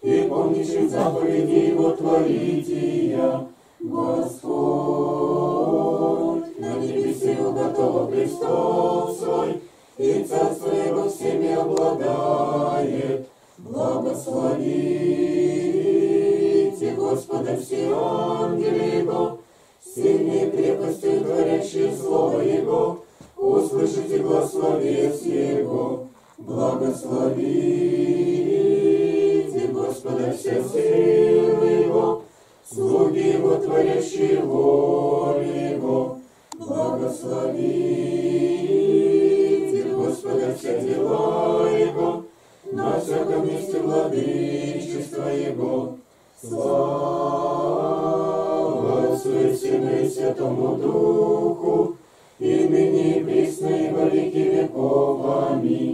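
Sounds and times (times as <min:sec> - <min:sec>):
congregation singing chant: 0:00.0 - 0:55.9.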